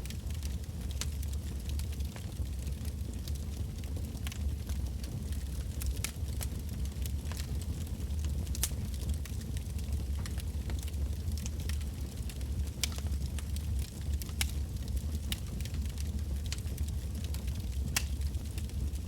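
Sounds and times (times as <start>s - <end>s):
burning logs crackling and popping: 0.0s - 19.0s
low rumble of flame: 0.0s - 19.0s.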